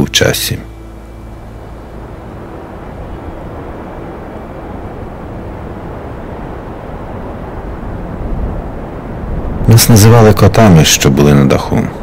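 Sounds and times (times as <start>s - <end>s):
wind blowing: 0.0s - 12.0s.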